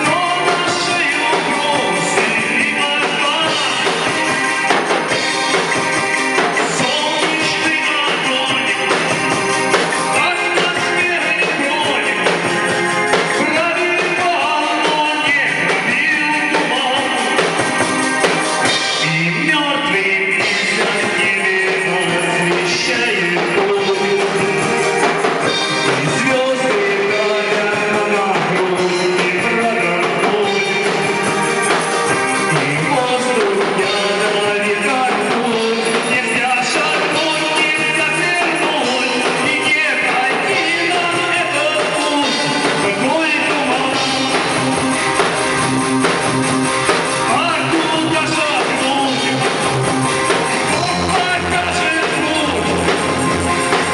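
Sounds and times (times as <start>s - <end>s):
rock band music: 0.0s - 53.9s.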